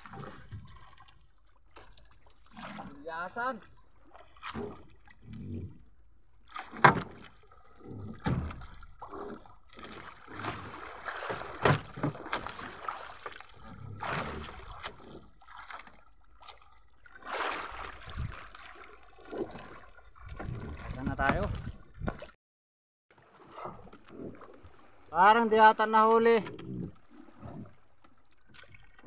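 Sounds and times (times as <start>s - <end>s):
water sloshing around boat: 0.0s - 22.4s, 23.1s - 29.0s.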